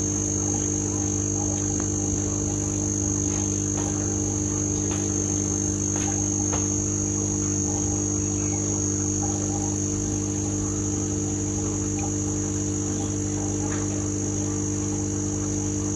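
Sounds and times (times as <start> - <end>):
high-pitched whine: 0.0 - 15.9
machine hum: 0.0 - 15.9.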